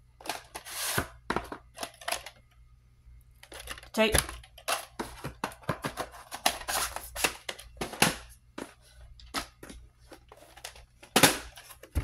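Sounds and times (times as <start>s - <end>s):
tape cases clicking and rustling: 0.2s - 2.5s, 3.4s - 12.0s.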